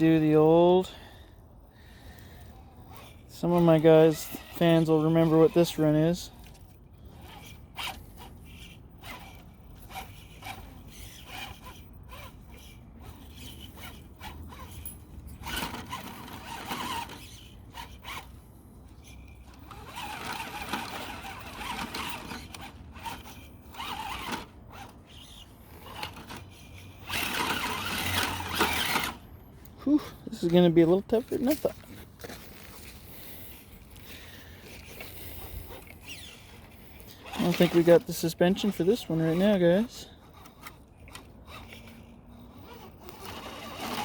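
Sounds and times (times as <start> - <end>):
electric motor whirring: 2.0 - 31.5, 33.1 - 44.0.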